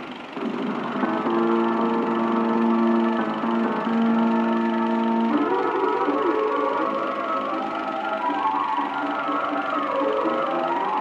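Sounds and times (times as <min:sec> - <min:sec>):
film projector running: 0:00.0 - 0:11.0.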